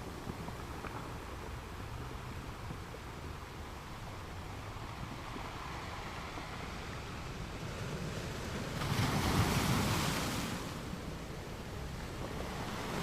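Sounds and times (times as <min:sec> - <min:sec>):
ocean surf: 0:00.0 - 0:13.0.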